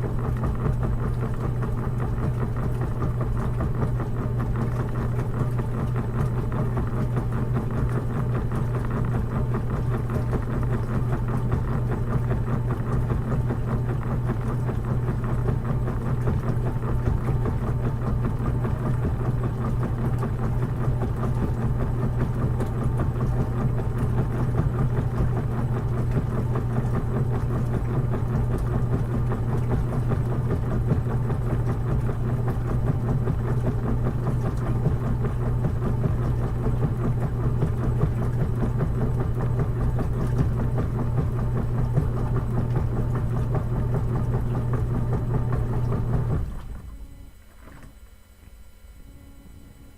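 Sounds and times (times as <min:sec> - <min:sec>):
washing machine running: 0:00.0 - 0:49.9.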